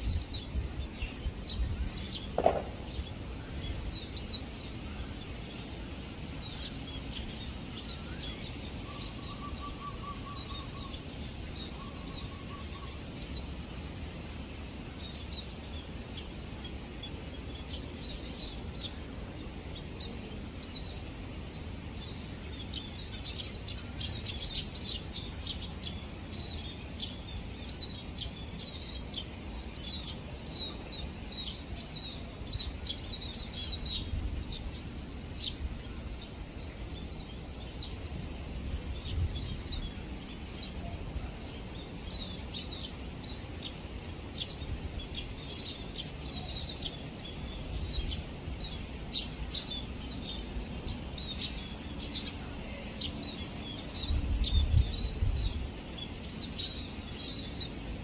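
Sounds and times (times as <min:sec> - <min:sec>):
flock of birds chirping: 0:00.0 - 0:58.0.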